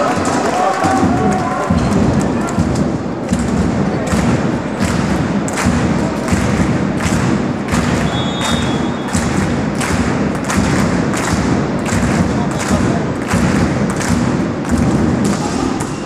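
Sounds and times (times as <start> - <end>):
crowd hum: 0.0 - 16.0
spectators beating rhythm: 0.0 - 16.0.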